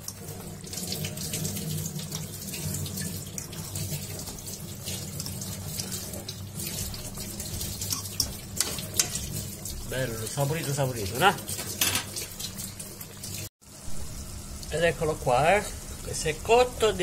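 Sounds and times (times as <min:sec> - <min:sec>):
liquid bubbling in a pan: 0:00.0 - 0:14.8.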